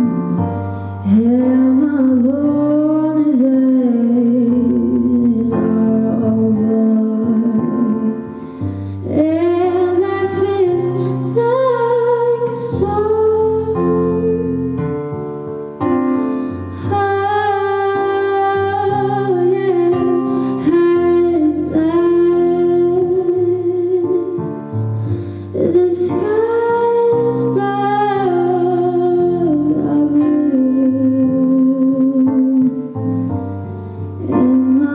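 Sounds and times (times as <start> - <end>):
woman singing ballad: 0.0 - 15.2, 16.0 - 34.9
piano chords: 0.0 - 34.9.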